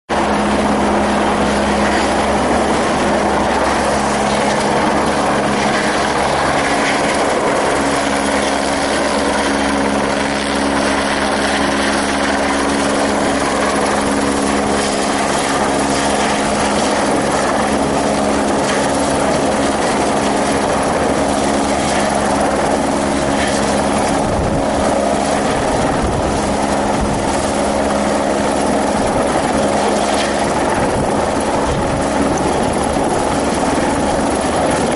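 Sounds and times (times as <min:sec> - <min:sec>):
helicopter drone: 0:00.1 - 0:34.9.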